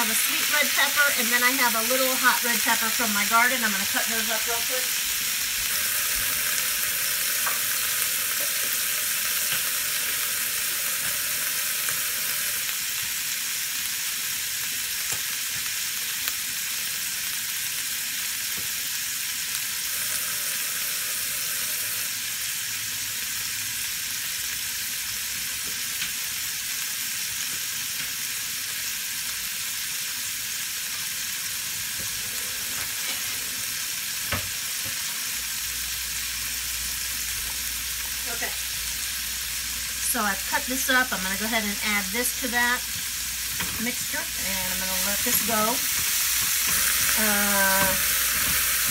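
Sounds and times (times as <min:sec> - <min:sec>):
oil sizzling in a skillet: 0:00.0 - 0:48.9.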